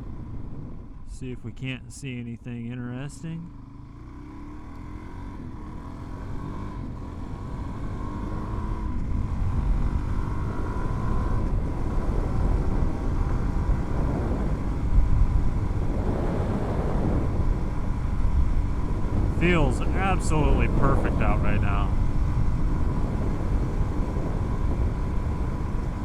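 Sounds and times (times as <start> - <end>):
wind rumble on microphone: 0.0 - 1.2, 6.3 - 26.0.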